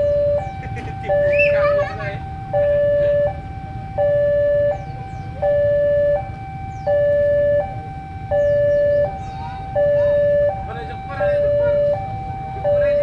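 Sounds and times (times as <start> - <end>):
level crossing two-tone alarm: 0.0 - 13.0.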